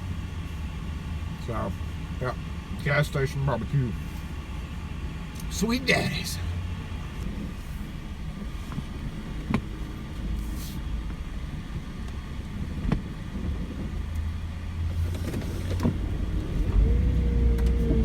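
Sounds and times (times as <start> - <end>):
car engine rumble from inside: 0.0 - 18.0.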